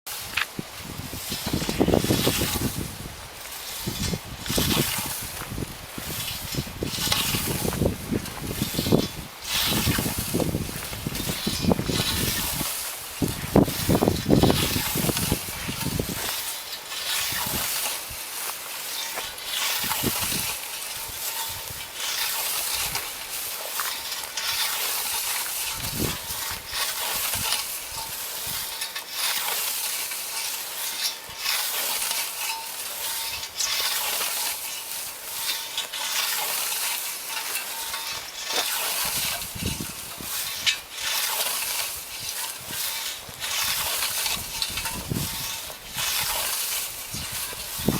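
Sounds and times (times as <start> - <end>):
scythe swishing through wheat: 0.1 - 47.9.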